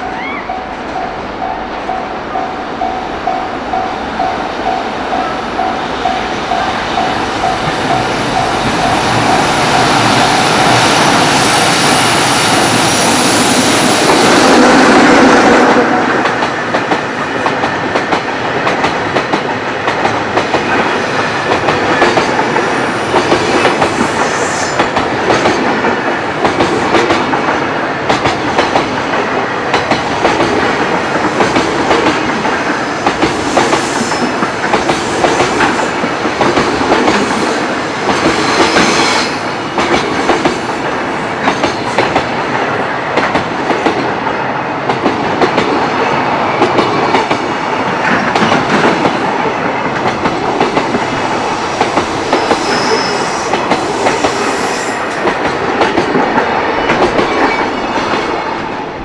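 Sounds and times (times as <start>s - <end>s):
rumble of train cars: 0.0s - 59.0s.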